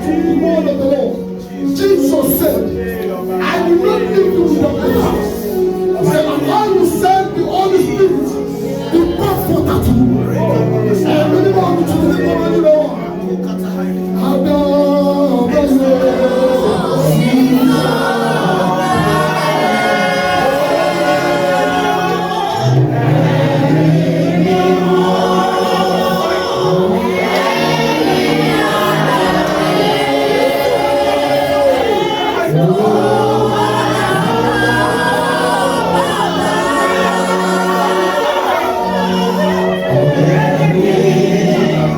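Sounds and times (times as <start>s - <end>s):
choir singing gospel: 0.0s - 41.9s.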